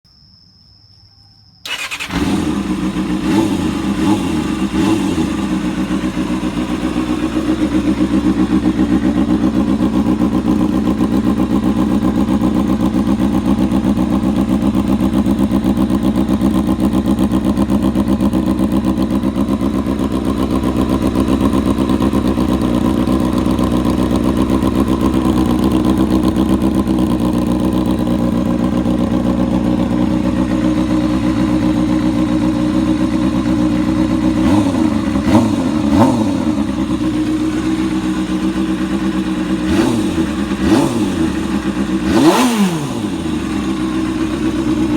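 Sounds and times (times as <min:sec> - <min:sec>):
motorcycle engine starting and idling: 0:01.6 - 0:44.9.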